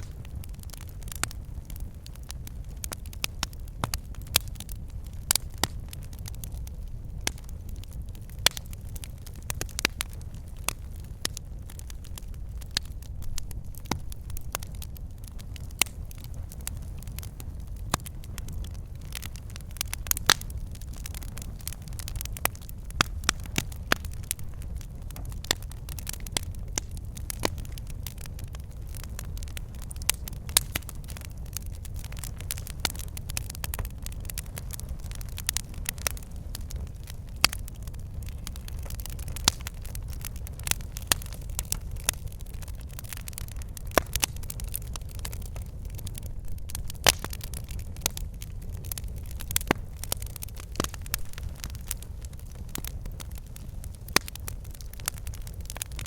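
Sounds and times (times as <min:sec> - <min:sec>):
logs crackling and popping: 0:00.0 - 0:56.0
low rumble of flames: 0:00.0 - 0:56.0.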